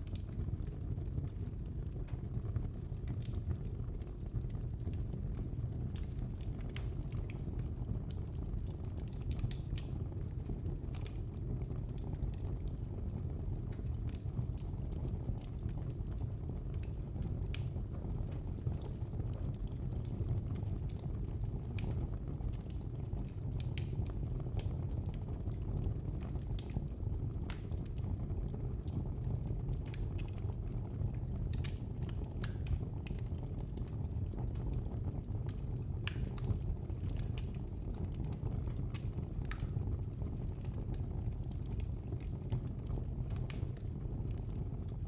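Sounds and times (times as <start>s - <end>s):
fire crackling in a fireplace: 0.0s - 45.0s.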